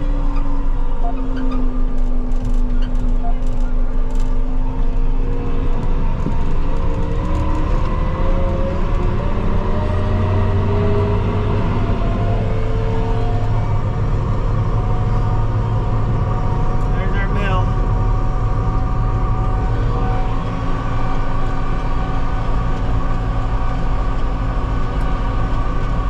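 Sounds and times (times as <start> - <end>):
tractor engine rumble: 0.0 - 26.0.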